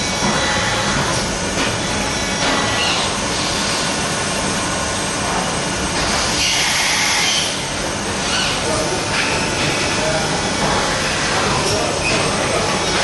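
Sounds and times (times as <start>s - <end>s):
machining center running: 0.0s - 13.0s.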